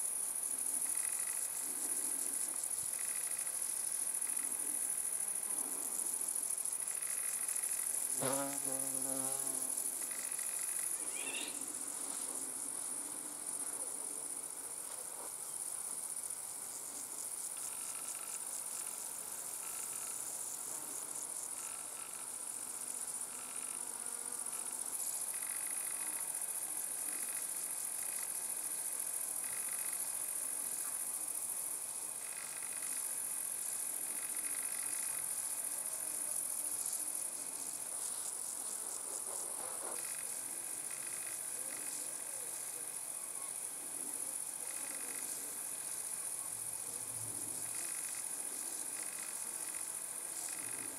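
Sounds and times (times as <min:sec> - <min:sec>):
crickets and grasshoppers chorus: 0:00.0 - 0:50.9
lower insect phrases: 0:00.4 - 0:14.9, 0:15.5 - 0:50.9.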